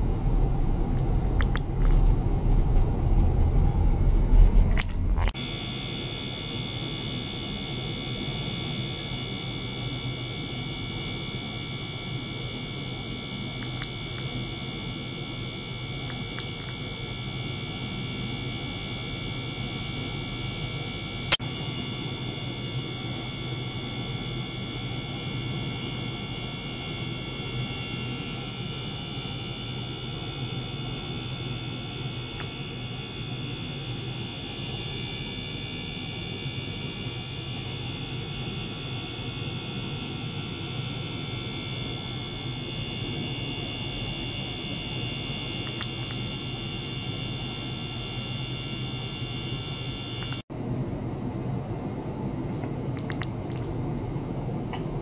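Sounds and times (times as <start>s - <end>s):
water pump running: 4.7s - 50.4s
high-pitched whines: 5.1s - 50.4s.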